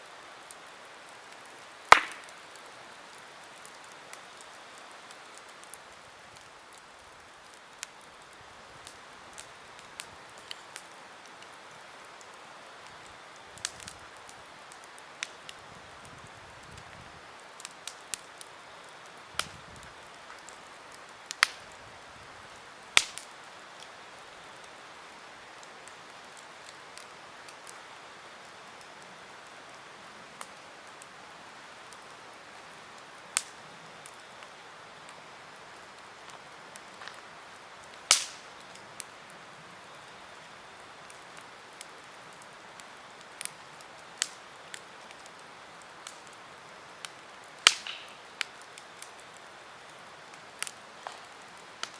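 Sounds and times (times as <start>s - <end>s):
burning wood popping: 0.0s - 51.9s
campfire hissing: 0.0s - 51.9s.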